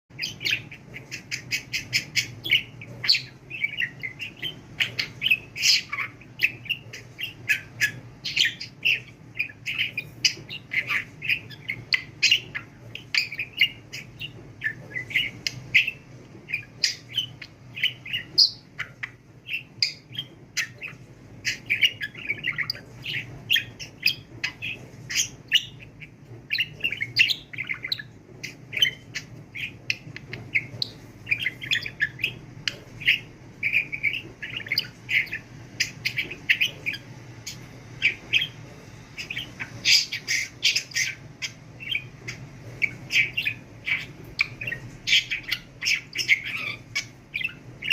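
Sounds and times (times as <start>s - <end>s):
budgerigar chattering and warbling: 0.2s - 47.9s.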